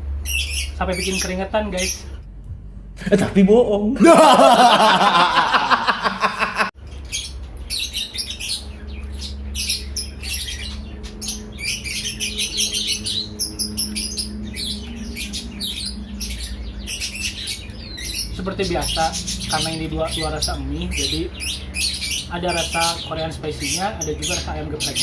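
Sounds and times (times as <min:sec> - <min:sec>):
small birds chirping and squawking: 0:00.0 - 0:02.2, 0:04.6 - 0:25.0
steady low hum: 0:00.0 - 0:22.4.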